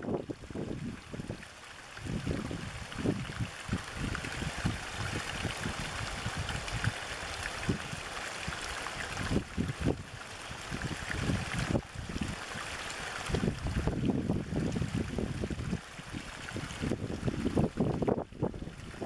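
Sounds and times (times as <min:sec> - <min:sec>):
stream of water splashing into pool: 0:00.0 - 0:19.0.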